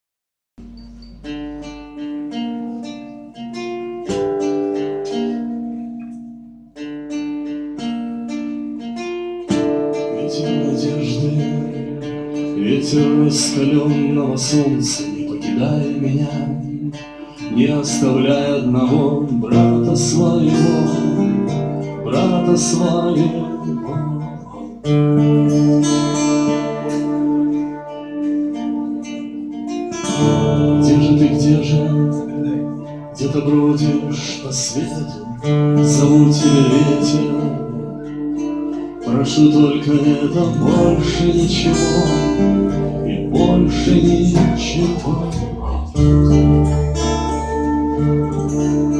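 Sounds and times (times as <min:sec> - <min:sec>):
guitar plucked notes: 0:00.6 - 0:48.9.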